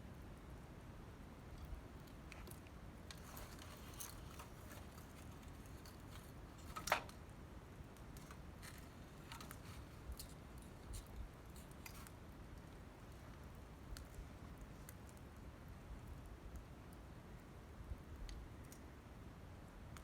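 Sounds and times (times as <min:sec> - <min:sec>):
wood fire crackling: 0:00.4 - 0:19.2.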